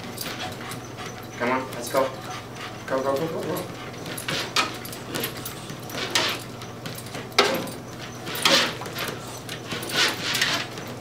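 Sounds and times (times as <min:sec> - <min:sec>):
dogs scratching at a door: 0:00.0 - 0:11.0
steady low hum: 0:00.0 - 0:11.0.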